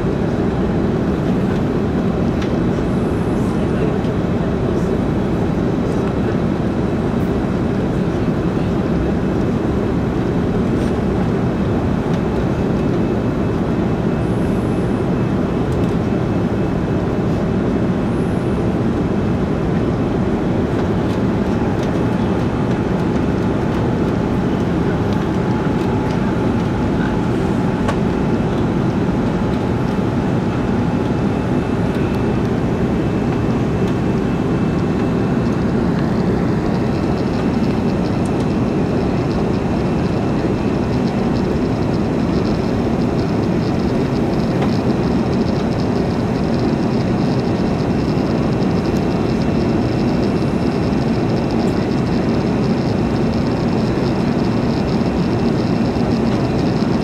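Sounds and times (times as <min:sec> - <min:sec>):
airplane cabin engine rush: 0:00.0 - 0:57.0.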